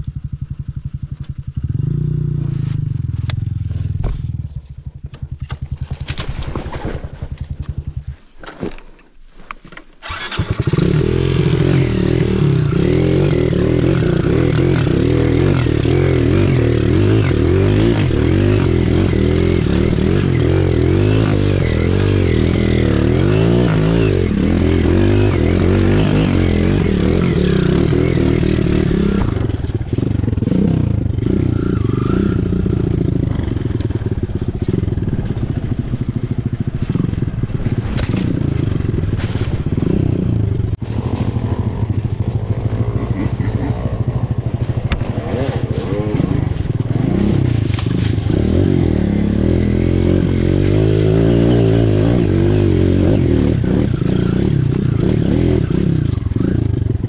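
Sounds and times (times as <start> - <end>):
motorcycle engine revving: 0.0 - 8.7, 10.0 - 57.0.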